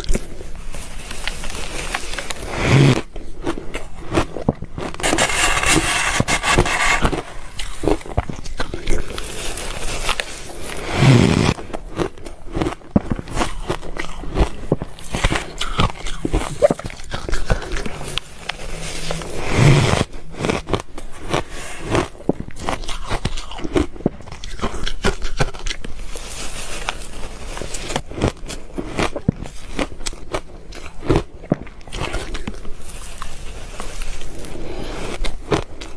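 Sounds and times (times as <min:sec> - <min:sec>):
ice crunching being chewed: 0:00.0 - 0:35.9.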